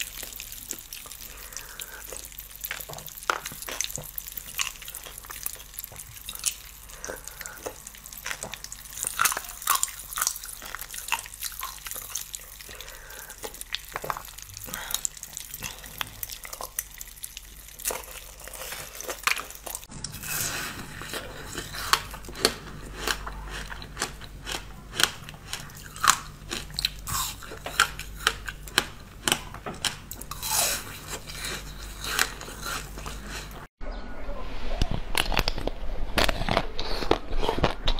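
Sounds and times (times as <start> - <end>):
biting and chewing frozen food: 0.0 - 33.7, 35.0 - 37.9.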